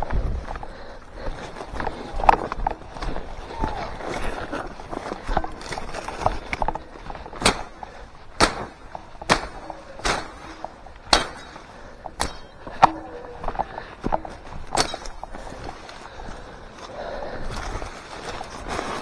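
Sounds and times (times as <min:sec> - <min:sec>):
footsteps crunching through dry brush: 0:00.0 - 0:19.0.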